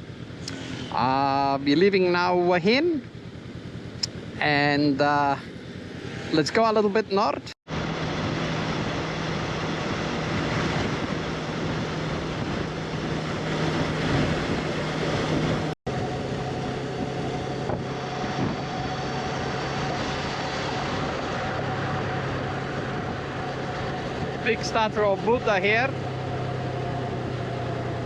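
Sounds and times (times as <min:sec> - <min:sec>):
motorcycle engine running: 0:00.0 - 0:28.0
road noise: 0:00.0 - 0:28.0
wind: 0:00.0 - 0:28.0.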